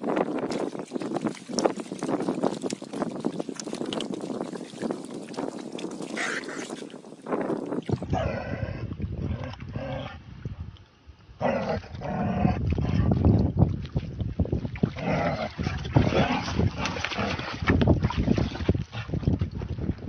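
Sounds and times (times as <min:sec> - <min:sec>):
water sloshing: 0:00.0 - 0:10.0, 0:11.9 - 0:19.8.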